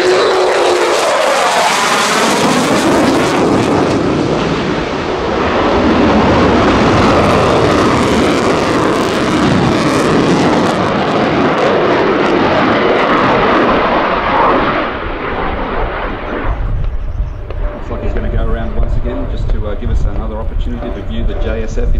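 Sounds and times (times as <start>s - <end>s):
jet engine roar: 0.0s - 21.9s.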